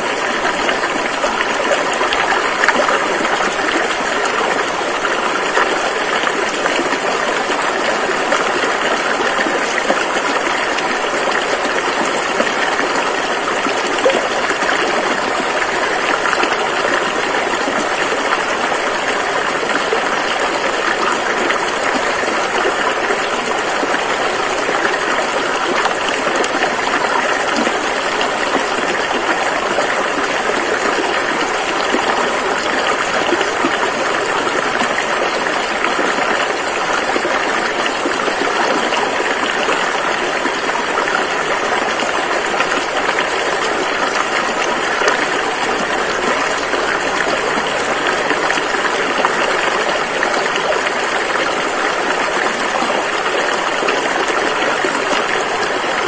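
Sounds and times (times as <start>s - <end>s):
river water rushing over rapids: 0.0s - 56.0s.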